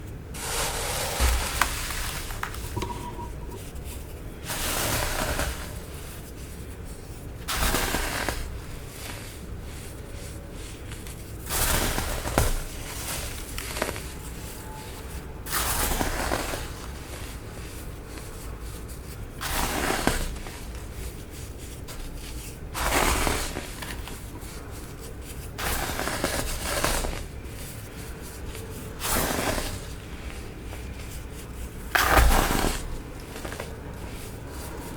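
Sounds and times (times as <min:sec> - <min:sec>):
baking soda clumps crunching: 0:00.3 - 0:34.9.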